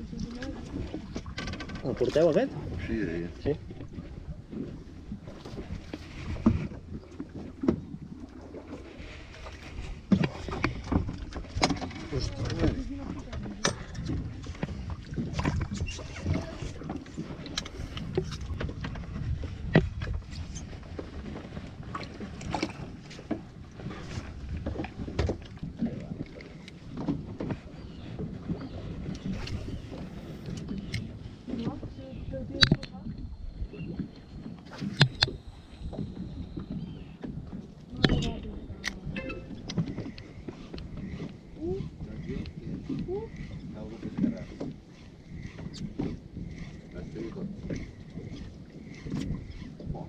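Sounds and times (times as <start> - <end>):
knocks and thuds on a boat: 0.0 - 50.0
water sloshing against hull: 0.0 - 50.0.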